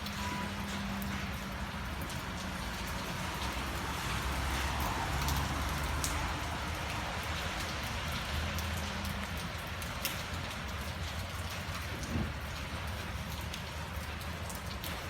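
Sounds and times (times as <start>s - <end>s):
rain on hard surfaces: 0.0s - 15.0s.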